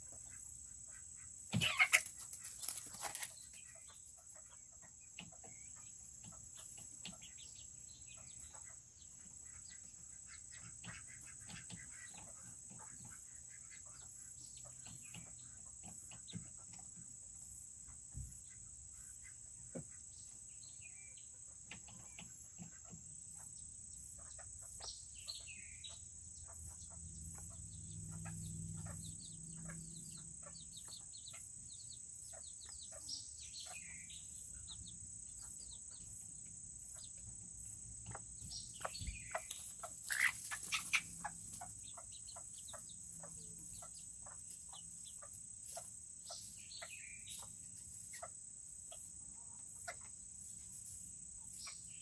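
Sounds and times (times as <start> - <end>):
chickens chirping and clucking: 0.0 - 52.0.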